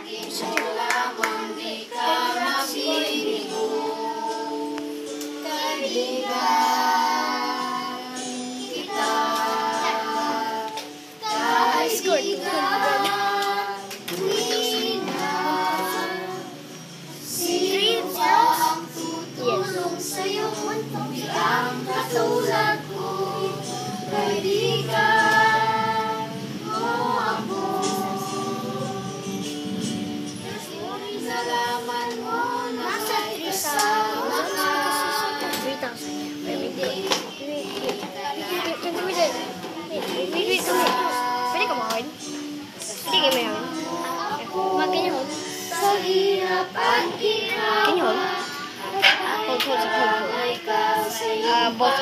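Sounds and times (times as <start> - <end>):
children and woman singing: 0.0 - 52.0.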